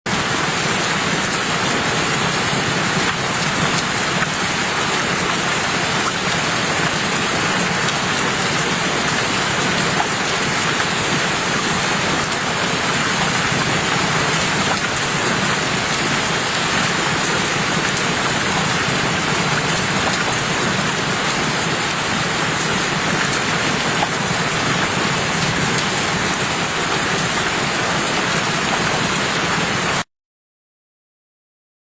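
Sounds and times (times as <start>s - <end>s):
steady rain falling: 0.1s - 30.1s.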